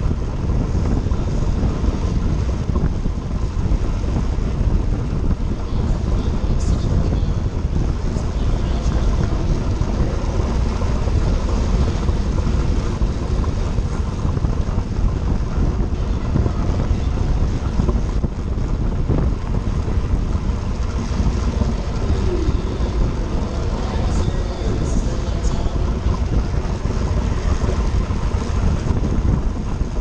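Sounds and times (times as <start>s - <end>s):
wind rushing: 0.0s - 30.0s.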